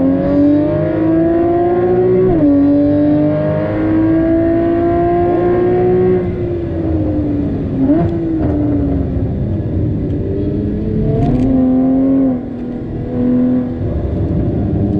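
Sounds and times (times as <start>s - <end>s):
sports car engine revving: 0.0s - 14.9s.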